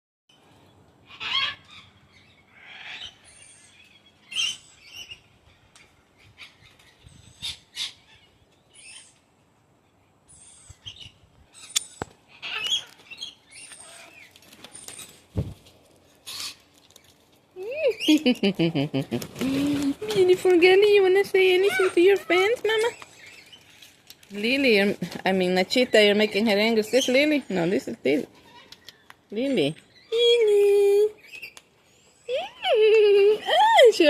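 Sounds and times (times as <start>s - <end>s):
birds squawking and chirping: 1.0s - 9.3s, 10.2s - 18.4s, 19.0s - 34.0s.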